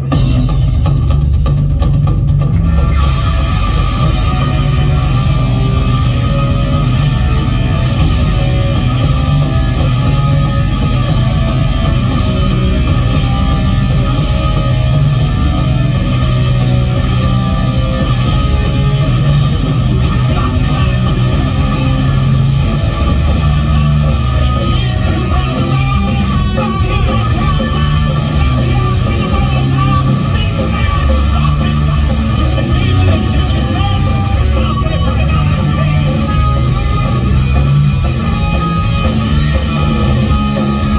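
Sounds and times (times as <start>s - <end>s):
punk rock band playing live: 0.0s - 40.9s.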